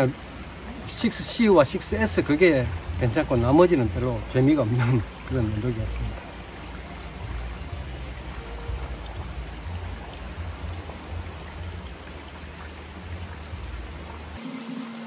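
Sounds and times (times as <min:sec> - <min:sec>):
low uneven rumble: 0:00.0 - 0:14.4
stream water running over rocks: 0:00.0 - 0:15.0.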